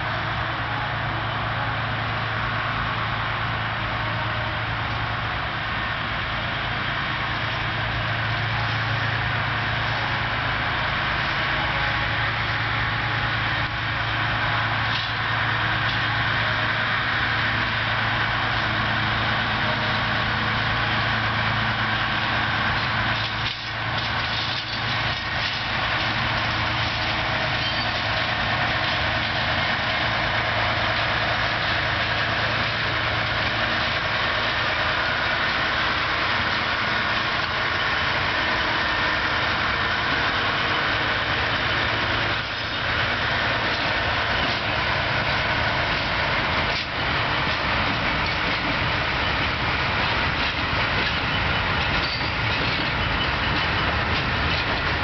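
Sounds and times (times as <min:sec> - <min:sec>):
diesel locomotive engine hum: 0:00.0 - 0:55.0.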